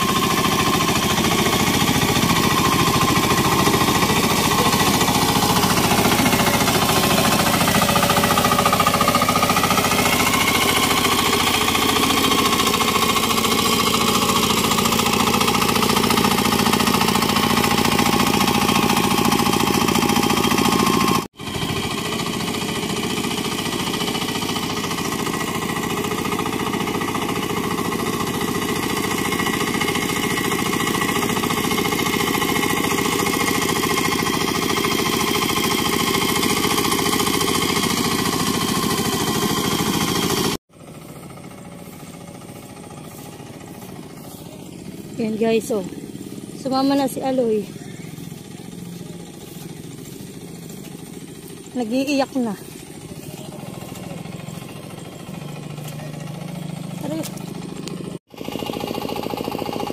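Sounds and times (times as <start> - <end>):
small tiller engine running: 0.0 - 59.9.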